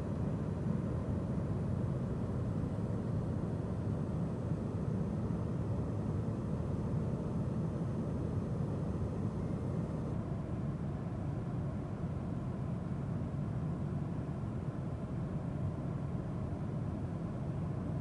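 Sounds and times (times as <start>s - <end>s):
airliner cabin rumble and hiss: 0.0s - 18.0s.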